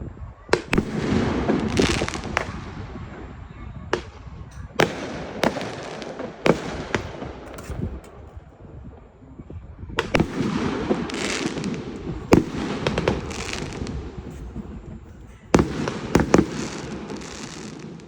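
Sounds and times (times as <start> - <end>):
fireworks crackling and fizzing: 0.0 - 9.2, 9.9 - 18.0
fireworks banging: 0.5 - 9.0, 9.9 - 18.0.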